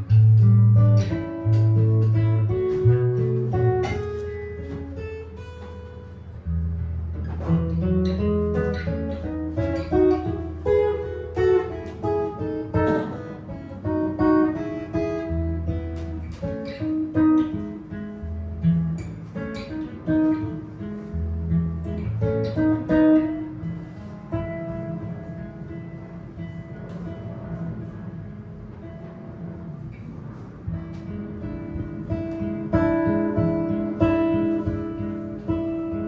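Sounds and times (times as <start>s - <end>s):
jazz guitar plucked notes and chords: 0.0s - 36.0s
low bass notes: 0.0s - 36.0s.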